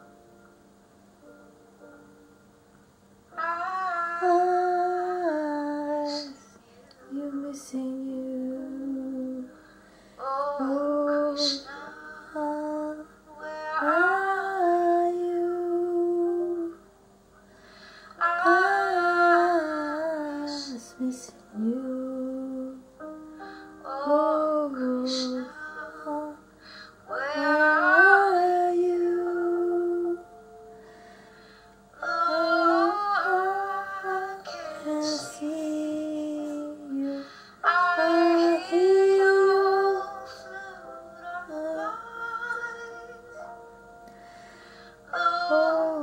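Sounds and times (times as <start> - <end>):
upright piano: 0.0 - 46.0
woman singing a ballad: 3.3 - 16.8, 17.8 - 31.2, 32.0 - 46.0.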